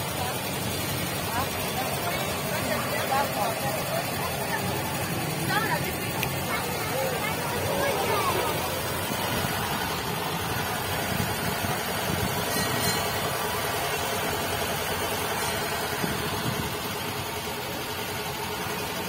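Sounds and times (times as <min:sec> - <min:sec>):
road train engine running: 0:00.0 - 0:19.0.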